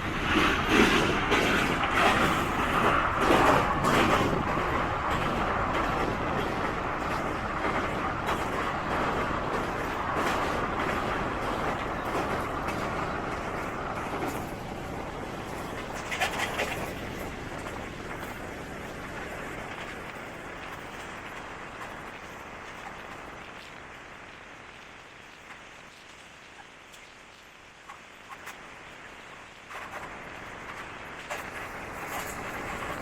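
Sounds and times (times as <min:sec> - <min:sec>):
moving train running noise: 0:00.0 - 0:33.0.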